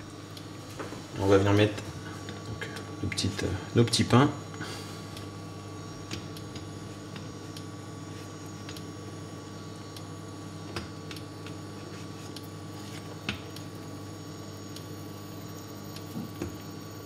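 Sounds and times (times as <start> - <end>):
kitchen hum: 0.0 - 17.0.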